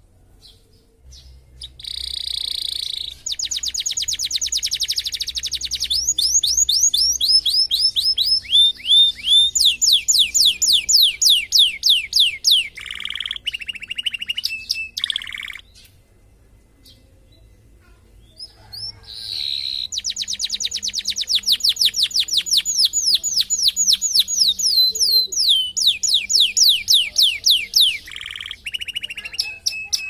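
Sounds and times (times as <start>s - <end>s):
canary singing trills and whistles: 1.2s - 15.9s, 18.2s - 30.0s.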